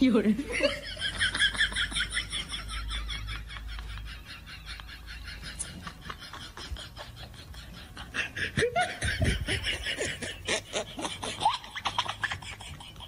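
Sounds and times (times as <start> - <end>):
laughter in quick bursts: 0.5 - 13.0.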